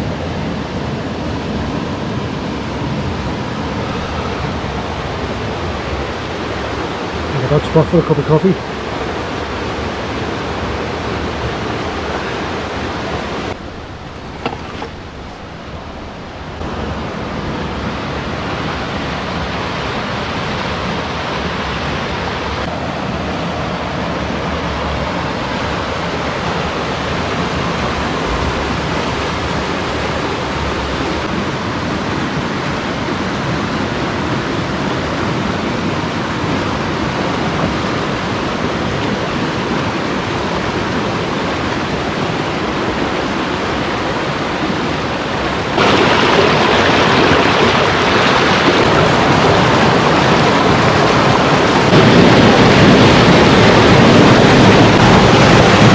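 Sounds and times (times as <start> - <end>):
river water rushing over rocks: 0.0 - 55.9.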